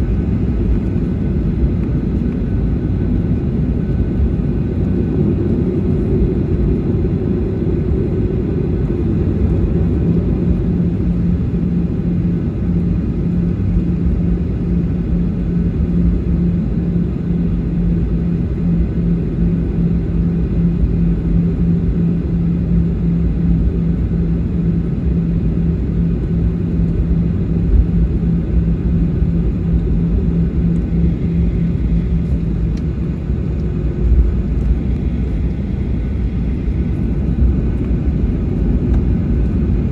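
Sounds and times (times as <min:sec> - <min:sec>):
low rumble inside airplane cabin: 0:00.0 - 0:39.9
steady low hum: 0:00.0 - 0:39.9.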